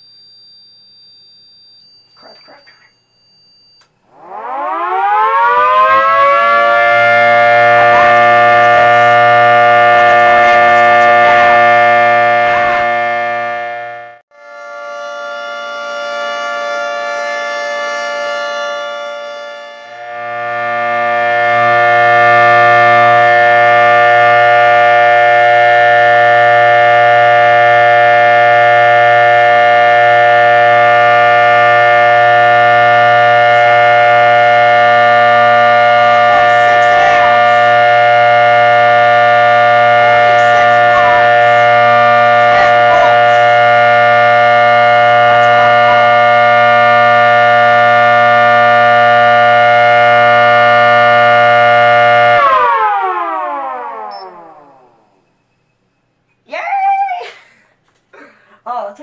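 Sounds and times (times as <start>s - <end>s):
miniature siren spinning up: 0.0s - 14.2s, 15.0s - 55.2s
outdoor warning siren chord: 0.0s - 55.4s.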